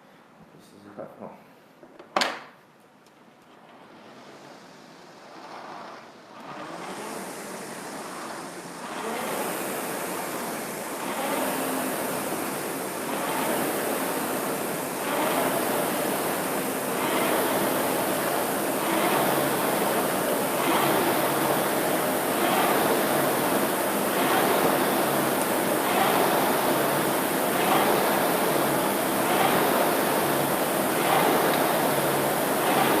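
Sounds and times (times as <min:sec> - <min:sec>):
rowing machine flywheel whooshing: 0:03.2 - 0:33.0.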